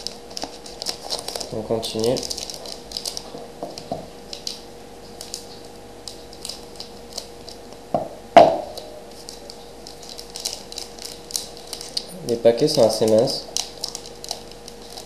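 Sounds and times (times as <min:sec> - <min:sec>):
wrapper crinkling and tearing: 0:00.0 - 0:07.8, 0:08.6 - 0:15.0
faint steady hum: 0:00.0 - 0:15.0.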